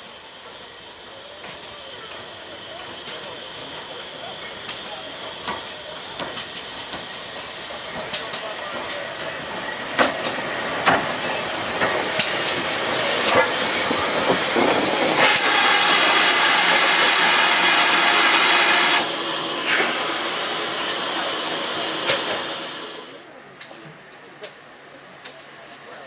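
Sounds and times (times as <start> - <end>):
steam hissing: 0.0 - 23.4.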